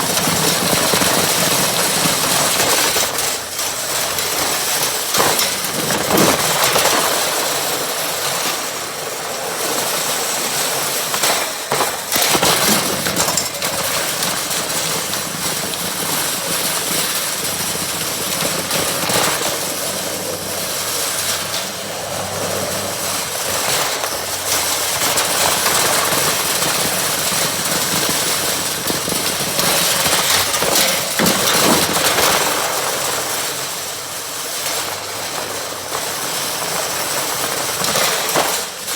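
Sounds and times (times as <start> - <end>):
riding lawn mower engine running: 0.0 - 38.9.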